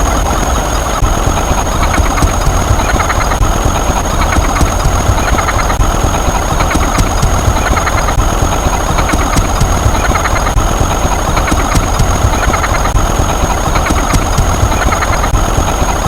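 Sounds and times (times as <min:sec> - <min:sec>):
engine-like rumble idling: 0:00.0 - 0:16.0.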